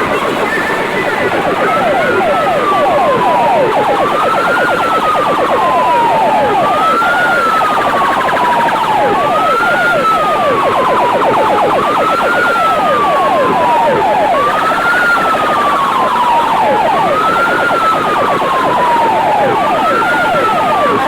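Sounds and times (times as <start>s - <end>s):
siren sound effect over speakers: 0.0s - 21.0s.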